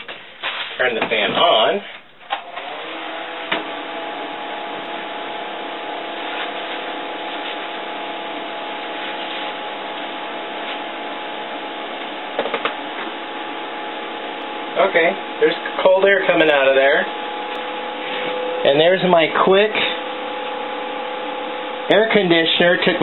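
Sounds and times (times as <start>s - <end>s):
electric fan blowing air: 2.2s - 23.0s.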